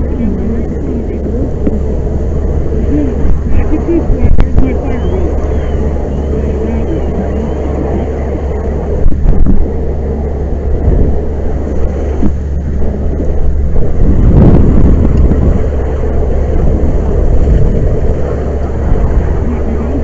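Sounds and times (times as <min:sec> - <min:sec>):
roaring gas fire: 0:00.0 - 0:20.0.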